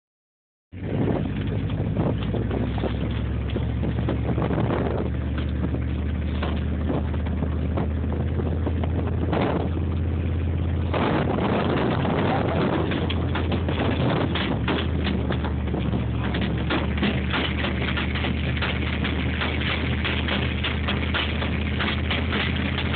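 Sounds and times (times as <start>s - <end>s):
vehicle engine droning: 0.7s - 22.9s.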